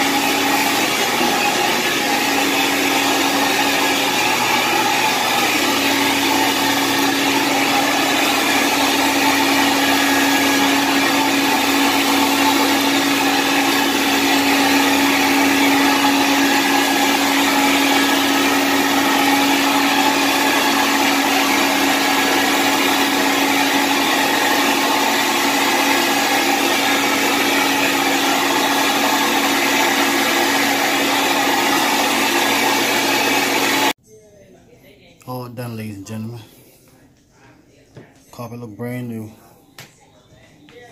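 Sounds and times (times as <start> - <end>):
carpet cleaning machine running: 0.0 - 34.0.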